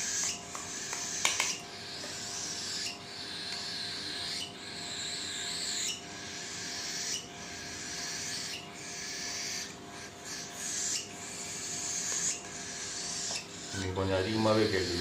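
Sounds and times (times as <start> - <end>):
chick raspy begging calls: 0.0 - 15.0.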